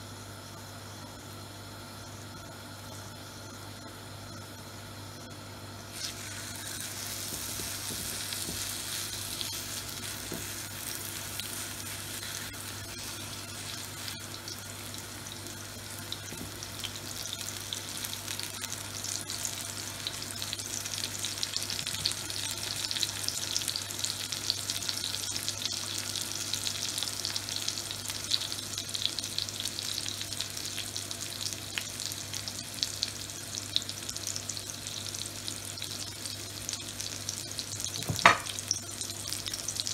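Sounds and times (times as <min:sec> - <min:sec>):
meat patties sizzling in oil: 0:05.8 - 0:39.9.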